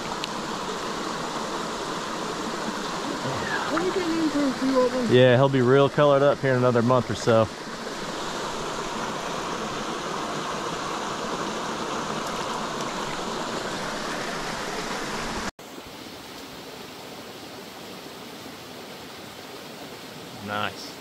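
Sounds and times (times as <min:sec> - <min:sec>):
creek running over rocks: 0:00.0 - 0:21.0.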